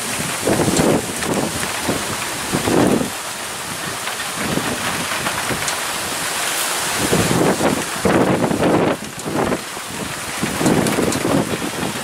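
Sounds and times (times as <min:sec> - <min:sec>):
storm wind rushing through trees: 0:00.0 - 0:12.0
wind gusts buffeting microphone: 0:00.0 - 0:12.0.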